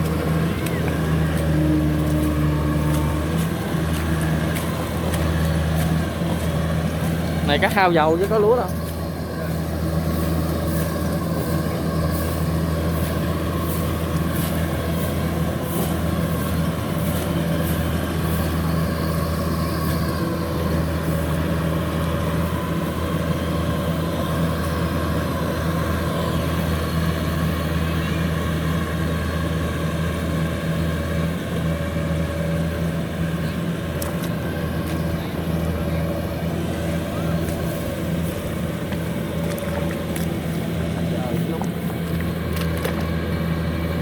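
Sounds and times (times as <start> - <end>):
combine harvester engine running: 0.0 - 44.0.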